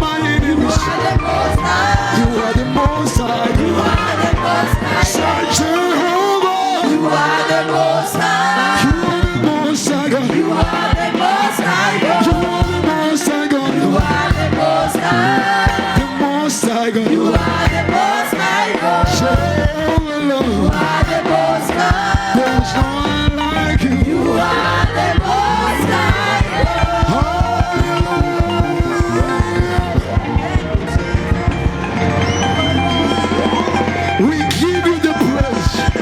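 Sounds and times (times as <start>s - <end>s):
live band with drums: 0.0s - 6.3s, 8.2s - 36.0s
voices singing together: 0.0s - 36.0s.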